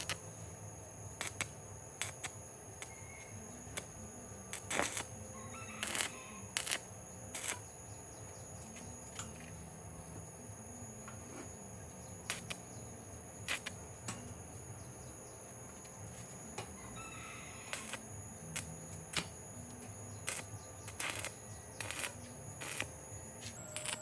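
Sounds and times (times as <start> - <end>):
steady high-pitched whine: 0.0 - 24.0.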